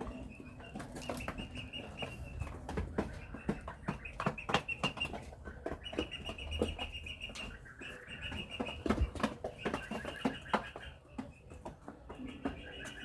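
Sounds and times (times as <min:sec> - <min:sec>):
chickens pecking at feed: 0:00.0 - 0:13.0.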